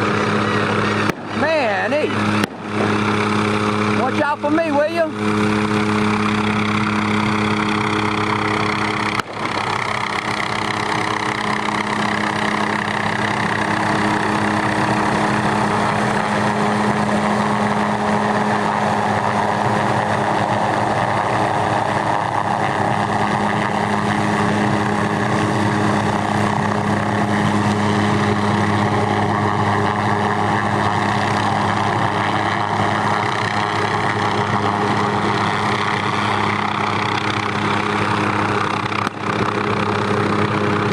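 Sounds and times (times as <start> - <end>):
helicopter rotor hum: 0.0 - 40.9
helicopter turbine whining: 0.0 - 40.9.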